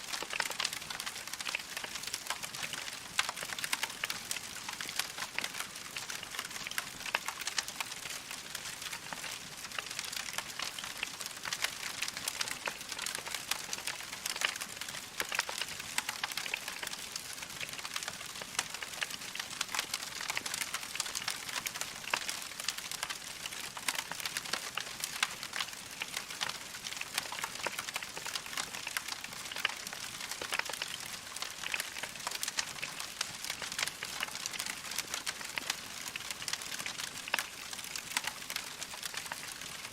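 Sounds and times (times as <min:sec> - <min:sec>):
logs crackling in fireplace: 0:00.1 - 0:39.9.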